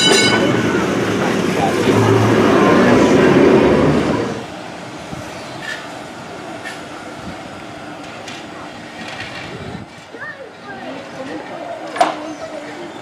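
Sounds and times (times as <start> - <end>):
tram running along track: 0.0 - 13.0
tram wheels rumbling on rails: 0.0 - 13.0.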